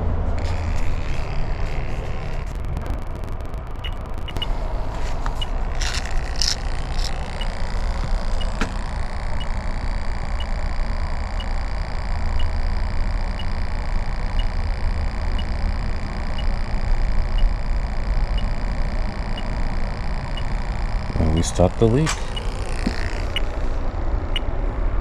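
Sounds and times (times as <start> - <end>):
low rumble: 0.0 - 21.4
leak detector ticking: 0.4 - 24.5.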